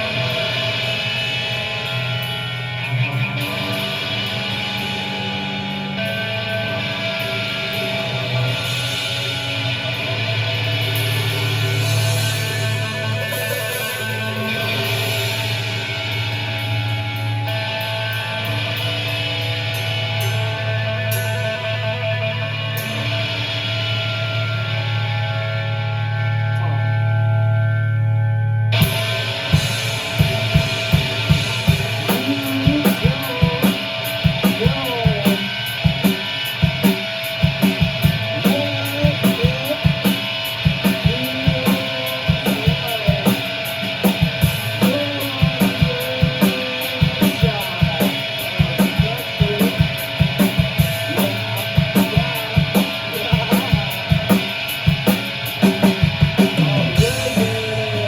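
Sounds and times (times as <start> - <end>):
drum kit steady beat: 0.0 - 24.8, 28.8 - 58.0
guitar: 0.0 - 58.0
rock band playing live: 0.0 - 58.0.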